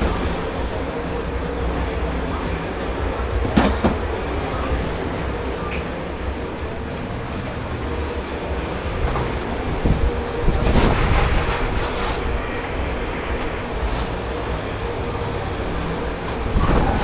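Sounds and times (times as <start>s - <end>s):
dishwashing machinery rumble: 0.0s - 17.0s.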